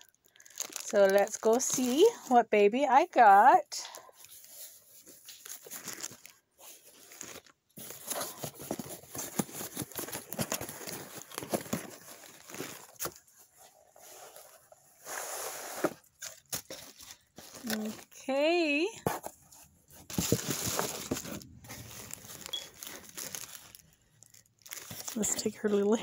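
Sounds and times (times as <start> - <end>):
cardboard and plastic rustling: 0.0 - 2.4, 3.9 - 26.0.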